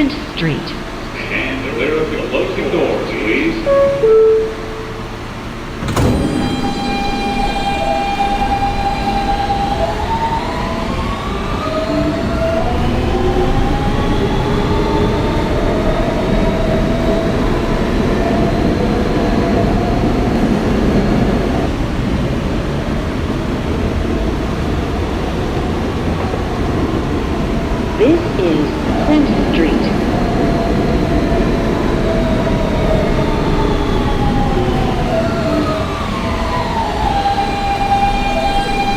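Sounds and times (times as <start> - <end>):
subway train motor whine: 0.0 - 38.9
wheel and track rumble: 4.6 - 38.9.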